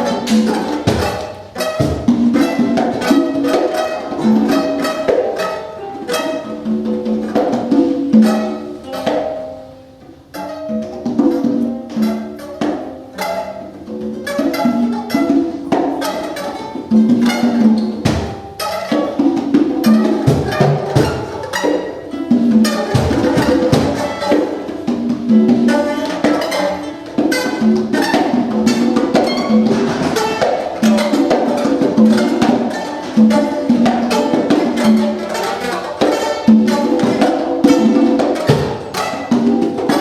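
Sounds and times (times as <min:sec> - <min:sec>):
congas played in quick strikes: 0:00.0 - 0:40.0.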